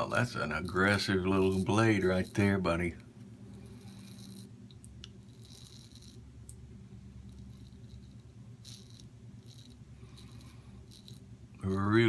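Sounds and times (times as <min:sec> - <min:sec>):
razor scraping stubble: 0:00.0 - 0:06.2, 0:07.2 - 0:12.0
steady low hum: 0:00.0 - 0:12.0.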